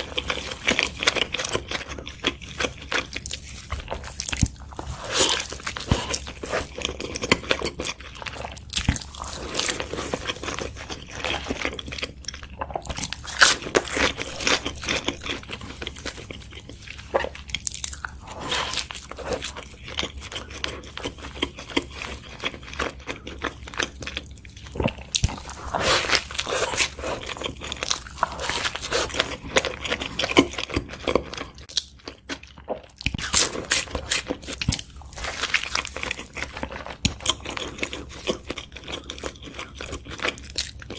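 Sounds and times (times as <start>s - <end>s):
crunchy food crunching: 0.0s - 40.9s
wet chewing: 0.0s - 40.9s.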